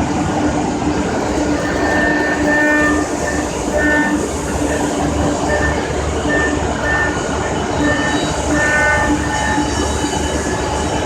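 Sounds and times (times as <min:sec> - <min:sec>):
high cutter whine: 0:01.0 - 0:11.0
milling machine cutting metal: 0:01.0 - 0:11.0.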